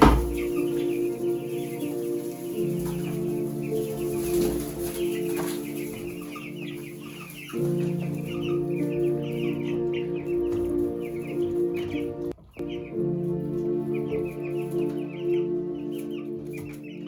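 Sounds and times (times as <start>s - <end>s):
chickens clucking: 0.0s - 17.0s
slow music with low chords: 0.0s - 17.0s.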